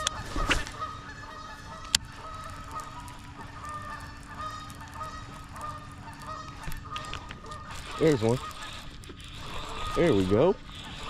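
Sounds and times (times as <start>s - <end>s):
waterbirds honking: 0.0s - 11.0s.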